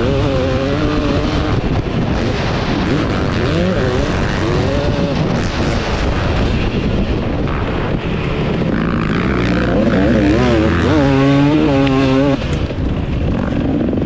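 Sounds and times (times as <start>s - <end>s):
motocross engine revving: 0.0s - 6.8s, 7.4s - 14.0s
wind noise on microphone: 0.0s - 14.0s.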